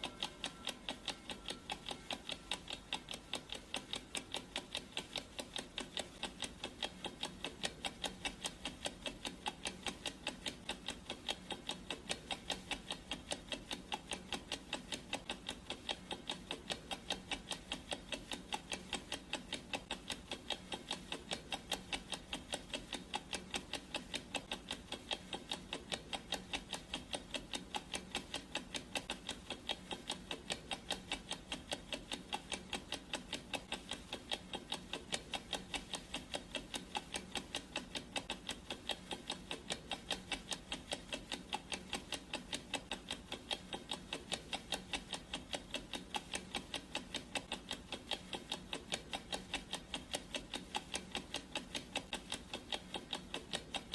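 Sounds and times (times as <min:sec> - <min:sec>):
clock ticking: 0:00.0 - 0:53.9.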